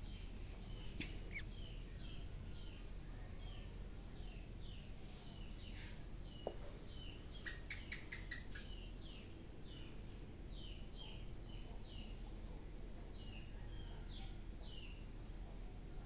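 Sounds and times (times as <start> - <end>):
small birds chirping: 0.0 - 15.9.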